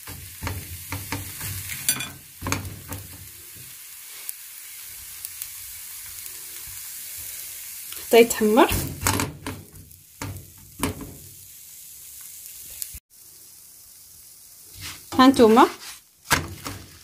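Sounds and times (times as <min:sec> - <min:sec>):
crepe sizzling in frying pan: 0:00.0 - 0:17.0.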